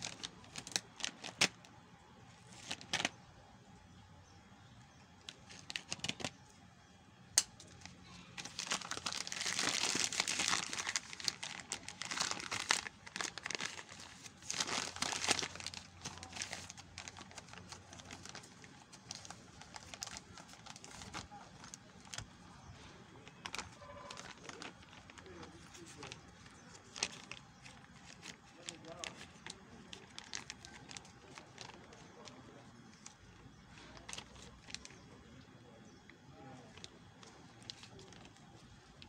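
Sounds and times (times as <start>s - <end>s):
plastic sachet crinkling: 0.0s - 3.6s, 4.6s - 6.6s, 7.2s - 35.2s, 36.0s - 39.0s.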